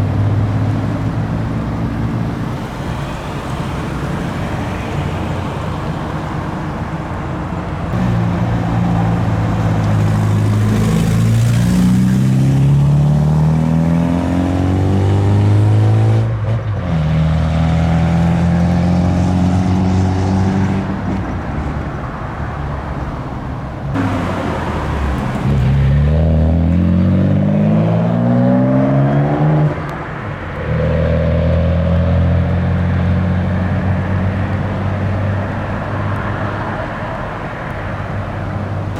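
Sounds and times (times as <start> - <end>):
car engine revving: 0.0 - 16.3, 17.1 - 38.9.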